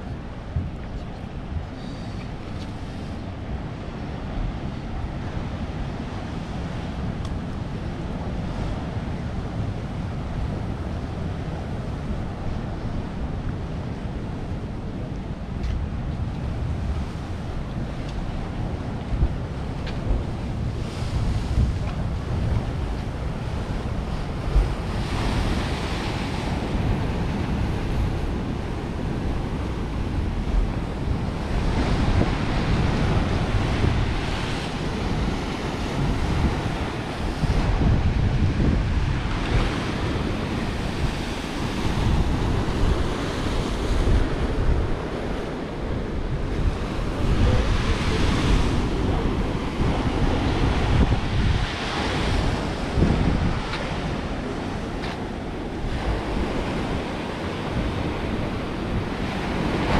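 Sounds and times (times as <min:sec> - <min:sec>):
sea waves washing ashore: 0:00.0 - 0:59.9
wind buffeting microphone: 0:00.0 - 0:59.9.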